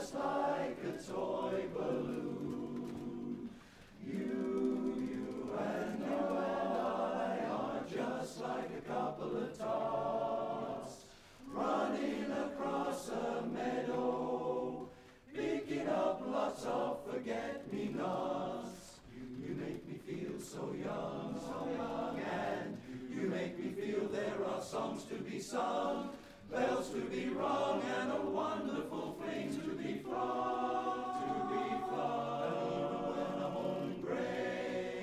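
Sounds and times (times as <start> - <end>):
male chorus singing a cappella: 0.0 - 35.0.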